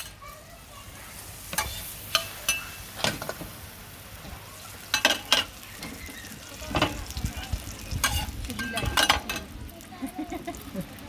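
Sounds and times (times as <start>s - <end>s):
pancake sizzling on a griddle: 0.0s - 11.0s.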